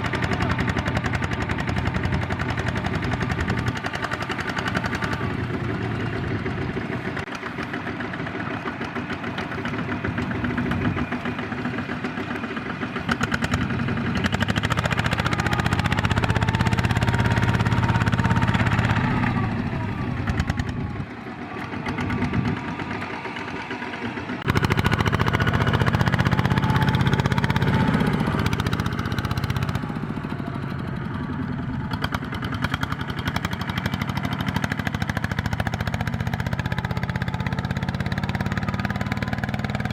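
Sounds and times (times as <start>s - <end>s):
diesel tractor engine knocking: 0.0s - 39.9s.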